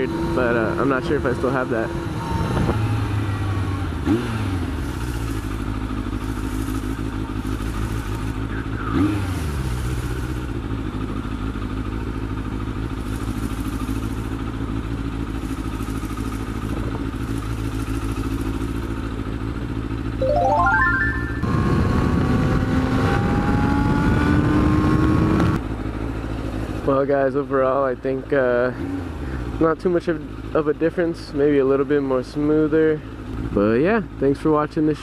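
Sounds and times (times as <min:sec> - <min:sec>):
motorcycle engine running: 0:00.0 - 0:20.2, 0:21.4 - 0:35.0.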